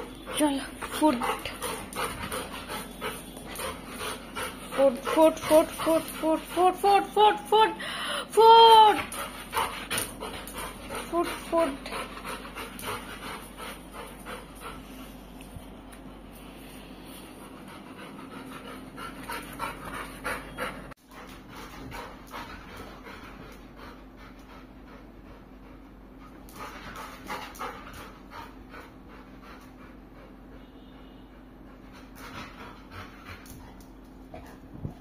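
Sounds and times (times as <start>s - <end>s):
dog panting: 0.0s - 15.4s, 17.1s - 35.0s.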